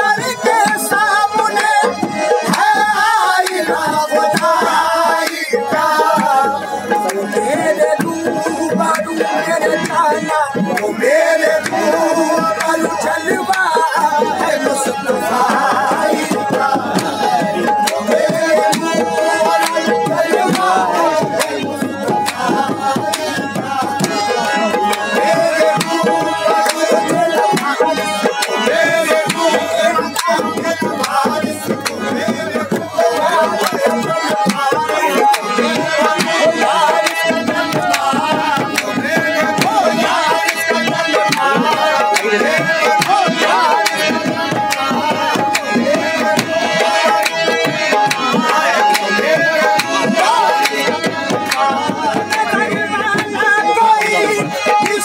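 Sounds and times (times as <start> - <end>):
harmonium chords: 0.0 - 55.0
tabla drumming: 0.0 - 55.0.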